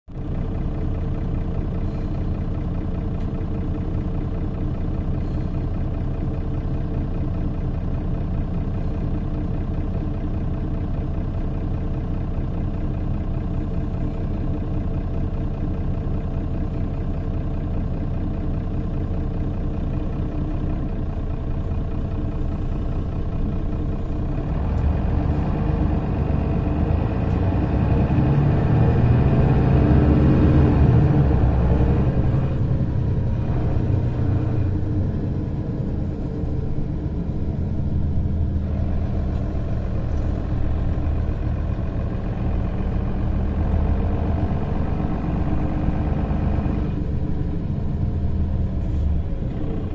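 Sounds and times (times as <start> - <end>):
bus engine idling: 0.1 - 49.9.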